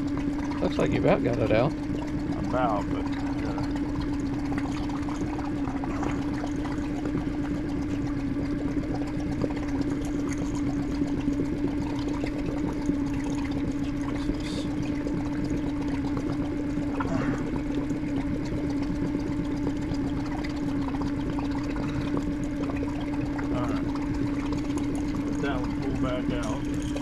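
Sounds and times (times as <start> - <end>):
electric motor humming: 0.0 - 27.0
water pouring and splashing: 0.0 - 27.0.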